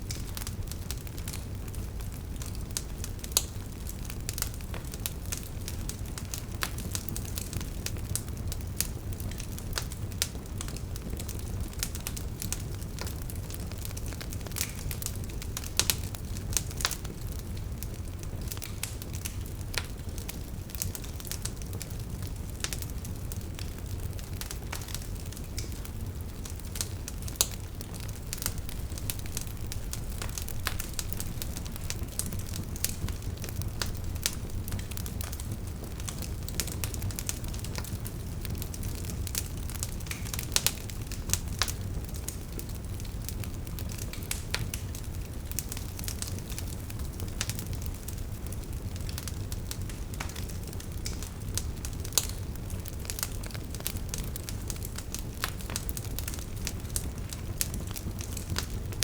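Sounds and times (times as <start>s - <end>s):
burning logs crackling: 0.0s - 59.0s
low rumble of flame: 0.0s - 59.0s.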